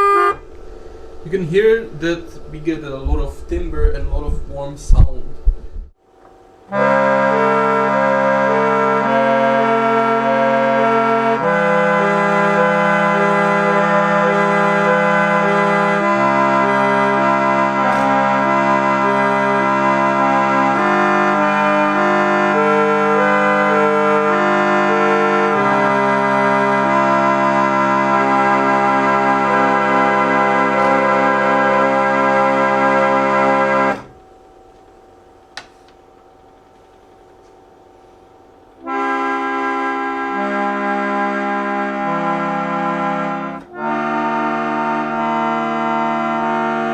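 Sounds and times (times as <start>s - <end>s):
electric chord organ playing: 0.0s - 5.0s, 5.9s - 46.9s.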